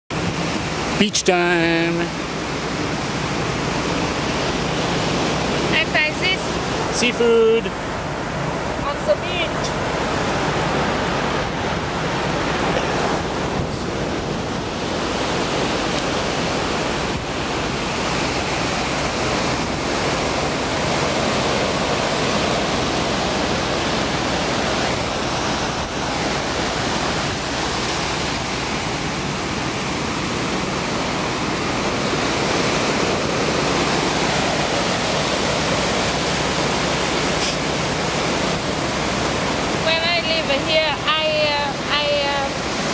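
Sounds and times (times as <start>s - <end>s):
ocean surf on sandy beach: 0.1s - 42.9s.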